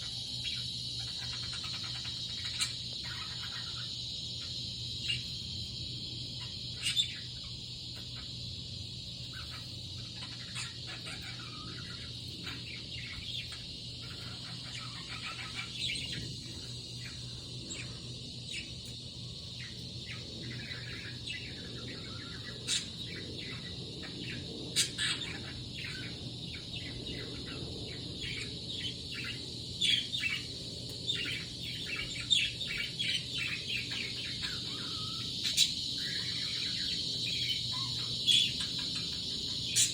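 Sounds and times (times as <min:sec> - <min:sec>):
faint background hum: 0:00.0 - 0:39.9.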